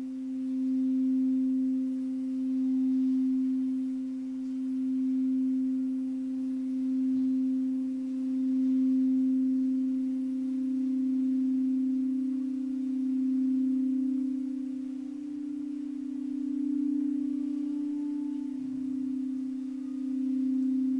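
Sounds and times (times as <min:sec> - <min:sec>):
singing bowl tone: 0:00.0 - 0:20.9.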